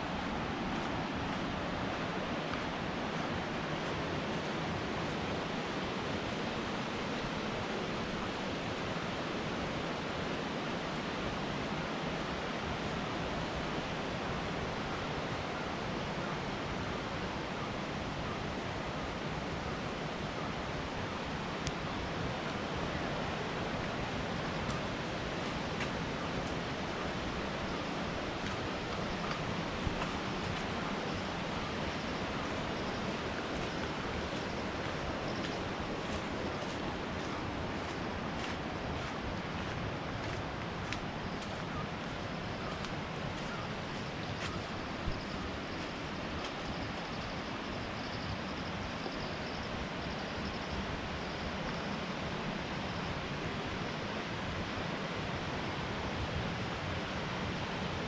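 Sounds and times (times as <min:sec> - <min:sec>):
rushing water roar: 0:00.0 - 0:58.0.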